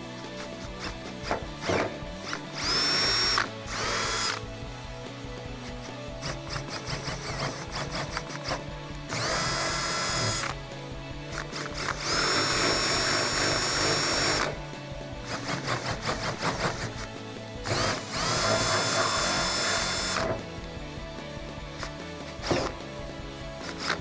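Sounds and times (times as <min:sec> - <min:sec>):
power drill boring sheet metal: 0:00.0 - 0:20.7, 0:21.6 - 0:24.0.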